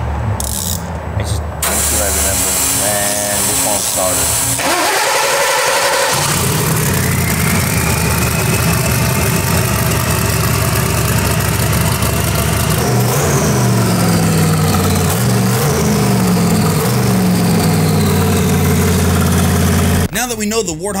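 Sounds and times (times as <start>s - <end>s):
car engine idling and revving: 0.0s - 20.1s.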